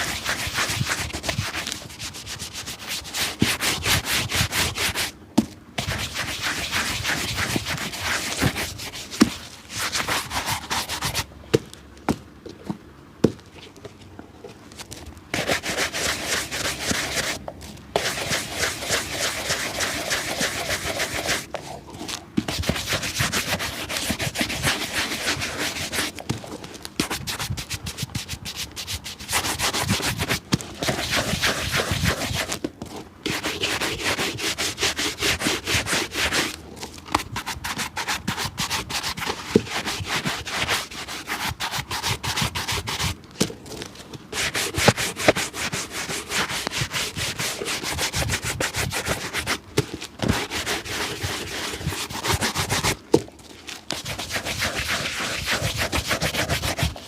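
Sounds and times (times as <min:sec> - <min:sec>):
scrubbing a shoe: 0:00.0 - 0:05.2, 0:05.8 - 0:11.3, 0:15.3 - 0:17.4, 0:18.0 - 0:43.2, 0:43.9 - 0:57.0.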